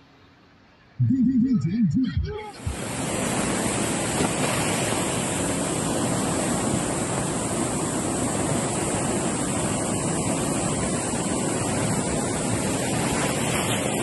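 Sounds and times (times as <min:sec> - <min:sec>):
floodwater rushing: 0:02.6 - 0:14.0.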